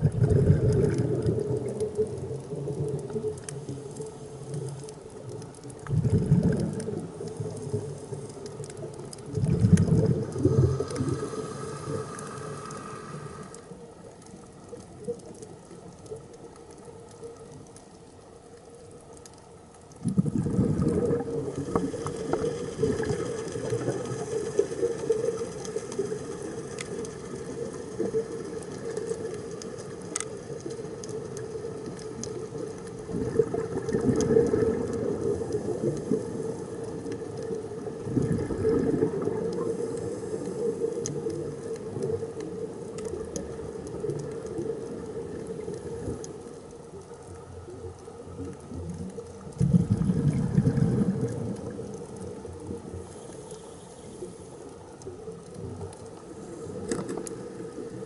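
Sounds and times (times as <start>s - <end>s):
underwater rushing water: 0.0s - 58.0s
faint sharp clicks: 0.4s - 20.2s, 20.8s - 58.0s.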